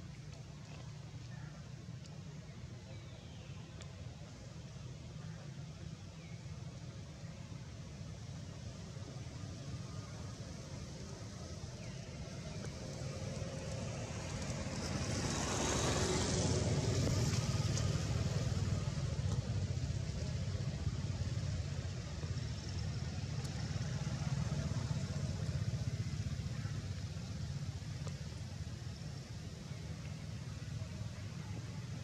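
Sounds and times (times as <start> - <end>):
low outdoor rumble: 0.0 - 32.0.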